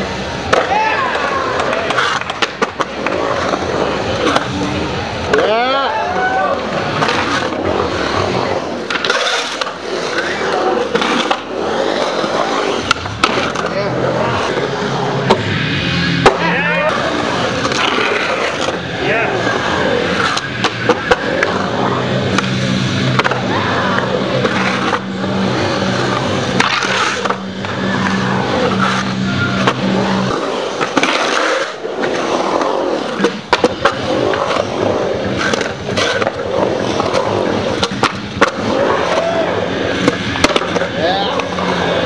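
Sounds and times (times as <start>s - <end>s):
skateboard clacks and scrapes: 0.0s - 42.0s
skateboard wheels rolling on concrete: 0.0s - 42.0s.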